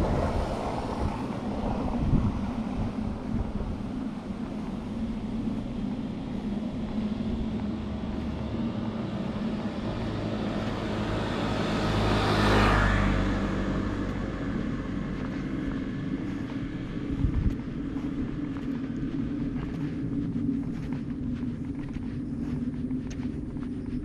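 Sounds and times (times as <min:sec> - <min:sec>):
car passing: 0:00.0 - 0:24.0
steady low hum: 0:00.0 - 0:24.0.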